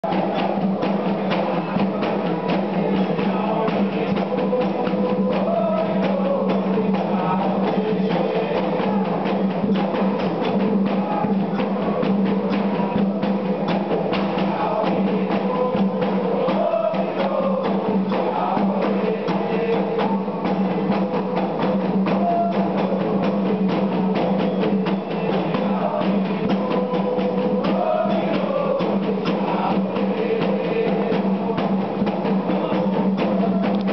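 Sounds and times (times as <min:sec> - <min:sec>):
hand drums beating fast rhythm: 0:00.0 - 0:33.9
voices singing: 0:00.0 - 0:33.9.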